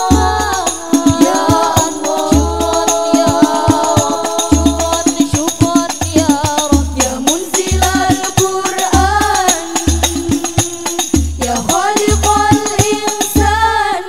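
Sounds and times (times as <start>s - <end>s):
hand-struck frame drums: 0.0s - 13.6s
singers with sliding melody: 0.0s - 14.0s.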